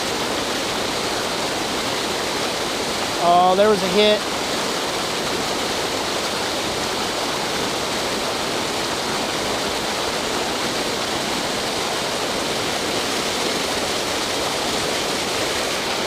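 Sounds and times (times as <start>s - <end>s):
water rushing over spillway: 0.0s - 16.0s.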